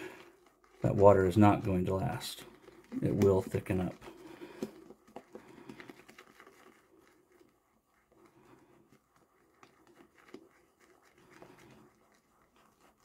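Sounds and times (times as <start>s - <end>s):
shaving brush swirling lather: 0.0s - 13.0s.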